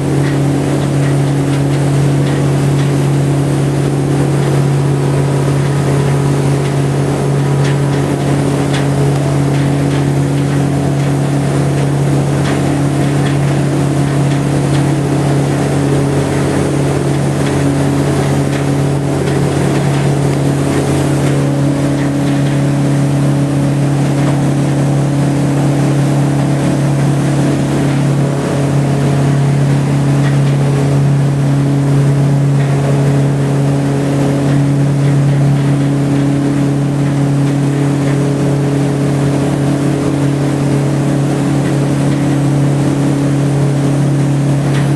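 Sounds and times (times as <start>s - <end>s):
boat engine drone: 0.0s - 44.9s
water wash: 0.0s - 44.9s.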